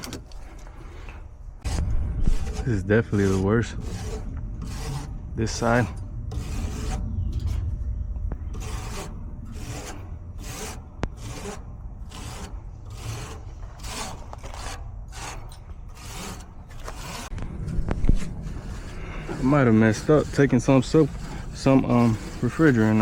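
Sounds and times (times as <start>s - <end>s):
steady low rumble: 0.0s - 23.0s
brush rasping strokes: 0.3s - 23.0s.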